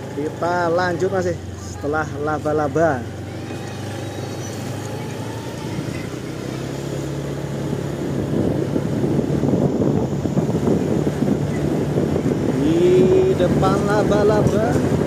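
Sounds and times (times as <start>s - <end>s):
low engine drone: 0.0s - 15.0s
rough rumble: 2.4s - 15.0s.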